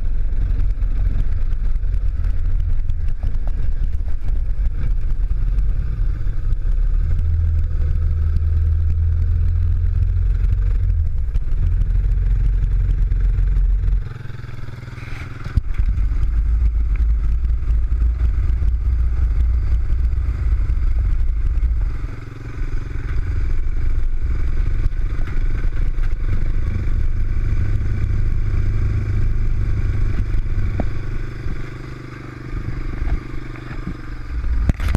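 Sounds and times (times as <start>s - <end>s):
quad bike engine rumbling: 0.0s - 34.9s
rattle and scrape over rough ground: 0.0s - 34.9s.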